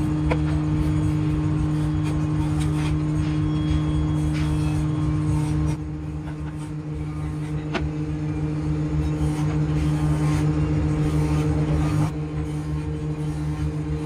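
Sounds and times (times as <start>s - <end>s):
workshop machine motor hum: 0.0s - 14.0s.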